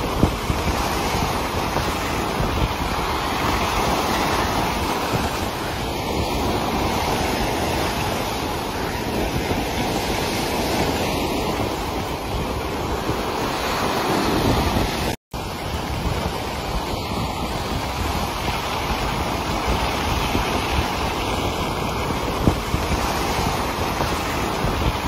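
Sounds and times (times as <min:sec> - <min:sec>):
sea surf breaking: 0:00.0 - 0:25.0
wind on microphone: 0:00.0 - 0:25.0.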